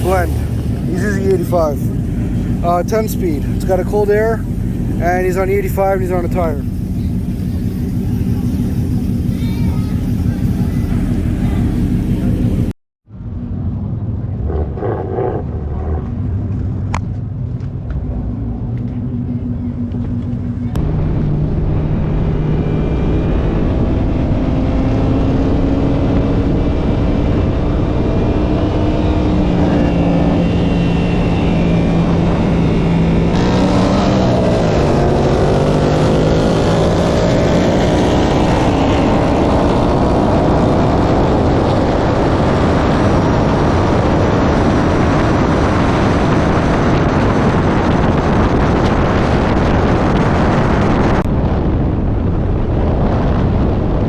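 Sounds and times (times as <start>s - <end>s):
wind rush: 0.0s - 12.7s, 20.7s - 54.0s
car engine accelerating hard: 0.0s - 54.0s.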